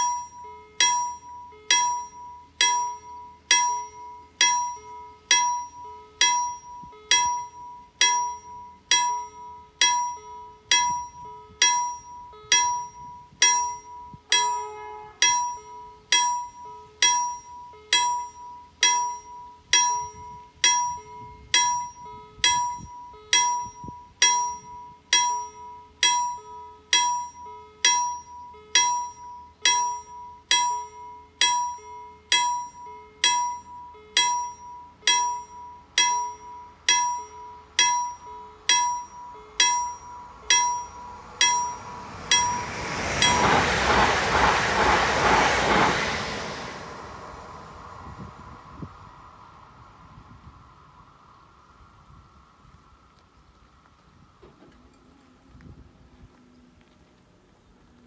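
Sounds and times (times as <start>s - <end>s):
level crossing warning bell: 0.0s - 49.2s.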